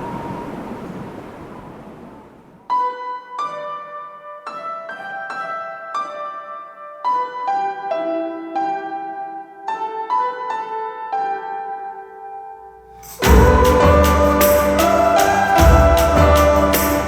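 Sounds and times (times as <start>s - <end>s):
slow gentle piano music: 2.7s - 17.0s.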